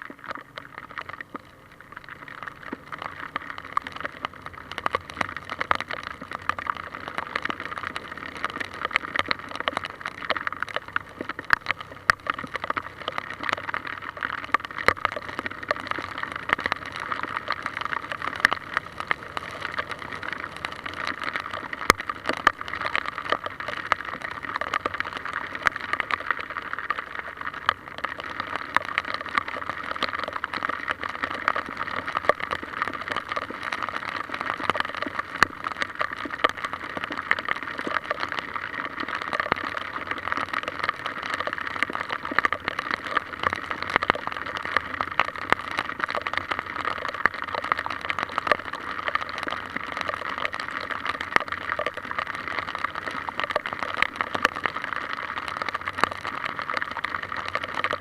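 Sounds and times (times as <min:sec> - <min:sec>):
water rushing in a stream: 0:00.0 - 0:58.0.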